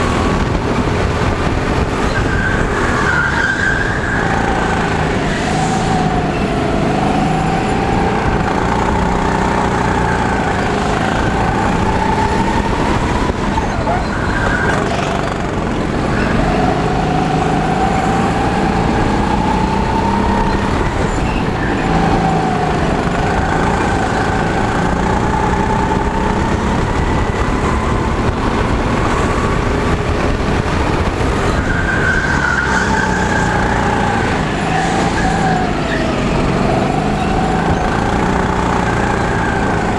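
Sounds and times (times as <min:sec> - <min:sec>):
go-kart engine at racing pace: 0:00.0 - 0:39.9.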